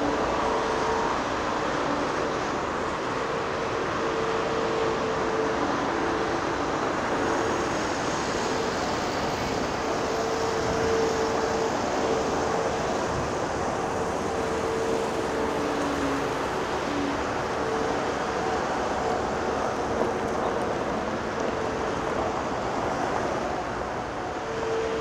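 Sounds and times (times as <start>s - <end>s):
motorway traffic rushing: 0.0s - 25.0s.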